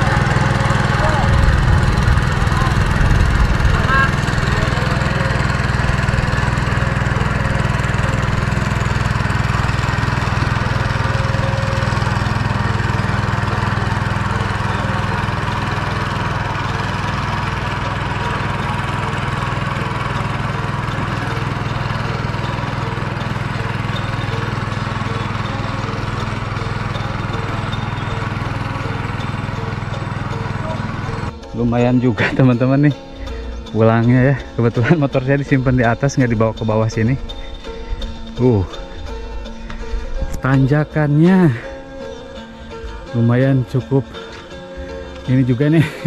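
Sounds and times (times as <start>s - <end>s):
small engine running: 0.0s - 46.0s.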